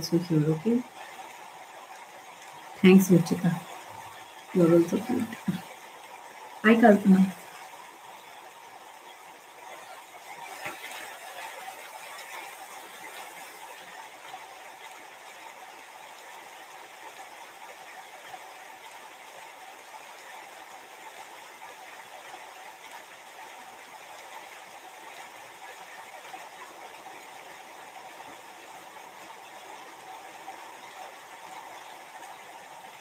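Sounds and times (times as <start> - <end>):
rain: 0.0 - 33.0.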